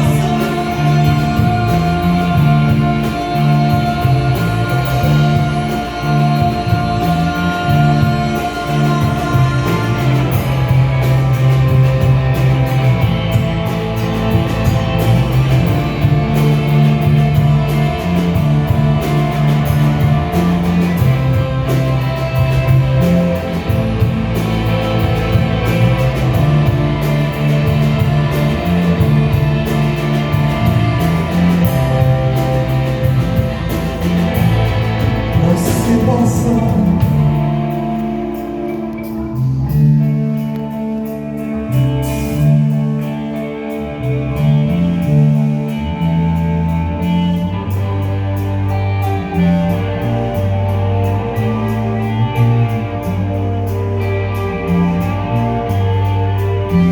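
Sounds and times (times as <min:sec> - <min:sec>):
instrumental rock music: 0:00.0 - 0:56.9.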